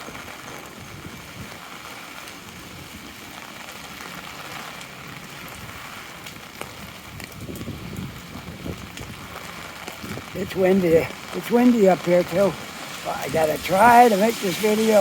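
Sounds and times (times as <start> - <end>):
heavy rain on an umbrella: 0.0 - 15.0.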